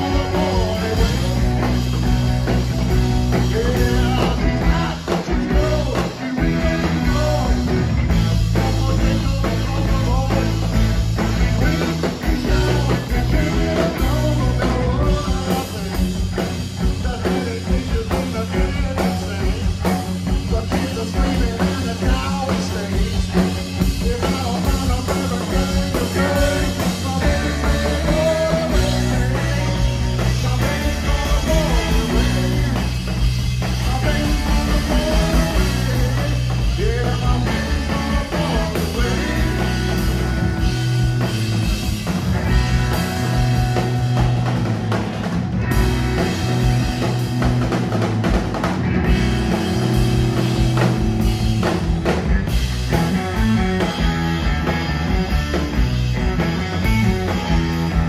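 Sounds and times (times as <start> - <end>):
drum kit: 0.0 - 58.0
electric bass: 0.0 - 58.0
electric guitar: 0.0 - 58.0.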